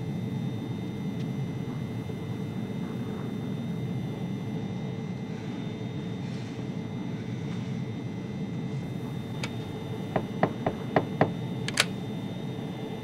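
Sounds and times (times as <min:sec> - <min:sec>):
airliner cockpit drone: 0:00.0 - 0:13.0.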